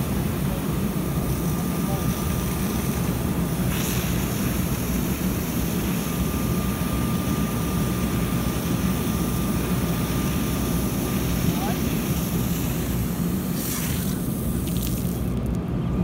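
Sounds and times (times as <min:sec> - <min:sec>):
fire hose rushing spray: 0:00.0 - 0:15.4
faint steady whine: 0:00.0 - 0:16.0.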